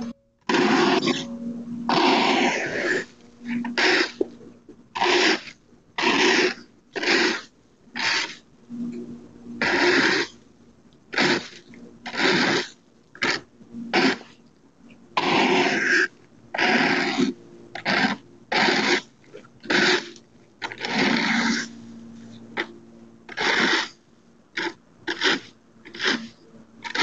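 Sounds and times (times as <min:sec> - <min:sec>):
rake scraping on asphalt: 0:00.0 - 0:10.4, 0:11.1 - 0:14.4, 0:15.2 - 0:24.0, 0:24.6 - 0:27.0.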